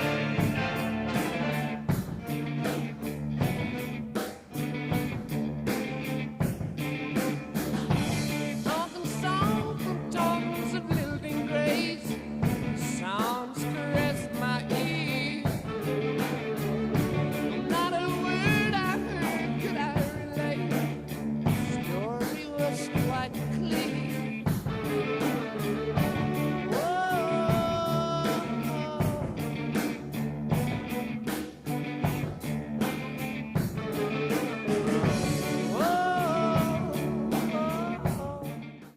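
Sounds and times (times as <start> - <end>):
rock music with singing: 0.0 - 38.9.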